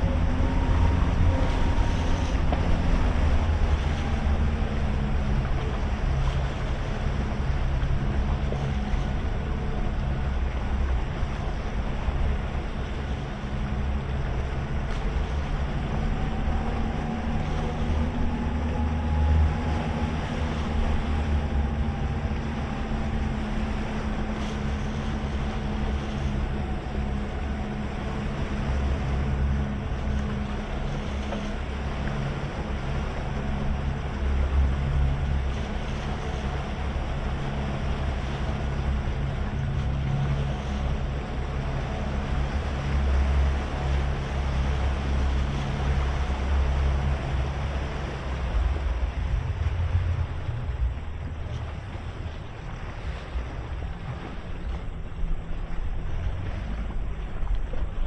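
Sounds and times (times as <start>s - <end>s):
outboard motors running: 0.0s - 58.0s
water rushing past hull: 0.0s - 58.0s
wind buffeting microphone: 0.0s - 58.0s.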